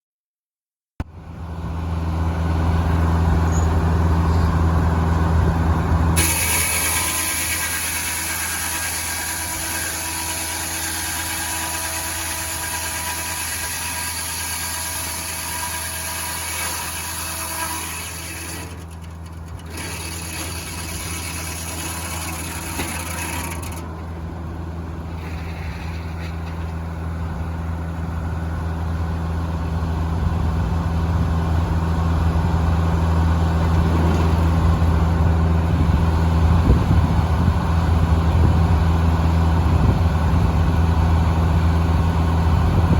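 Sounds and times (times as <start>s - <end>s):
engine running with low hum: 1.0s - 42.9s.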